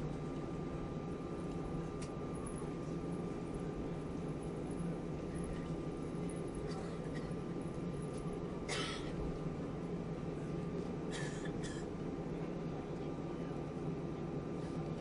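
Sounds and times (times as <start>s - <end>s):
low cabin hum: 0.0s - 15.0s.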